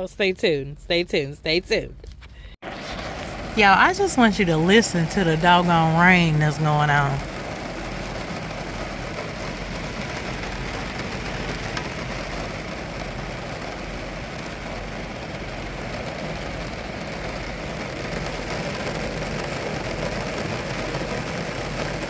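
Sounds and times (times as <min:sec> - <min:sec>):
heavy rain on bus: 0:02.5 - 0:22.0.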